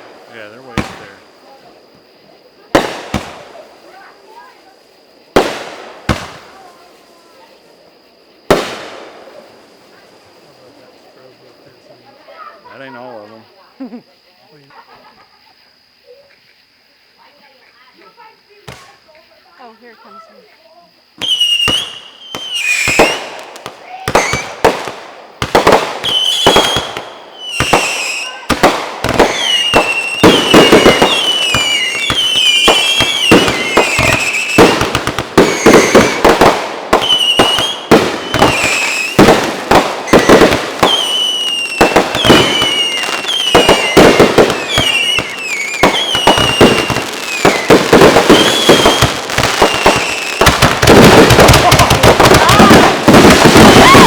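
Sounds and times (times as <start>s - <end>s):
firework bangs: 0.0s - 13.1s, 18.1s - 19.1s, 21.1s - 54.0s
firework whistling: 0.0s - 13.8s, 17.2s - 54.0s.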